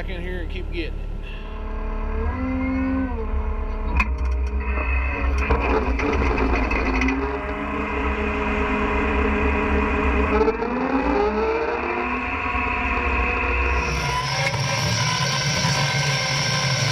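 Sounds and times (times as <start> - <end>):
diesel engine revving: 0.0 - 16.9.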